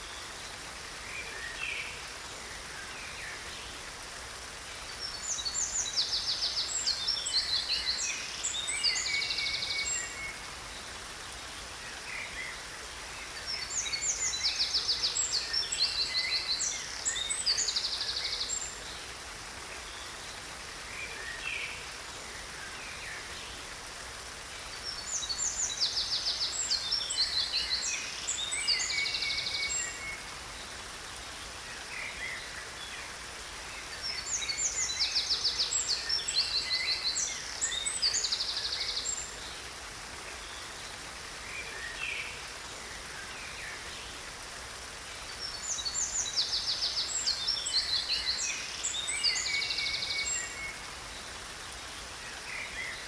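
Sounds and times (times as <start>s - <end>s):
rush of falling water: 0.0s - 53.0s.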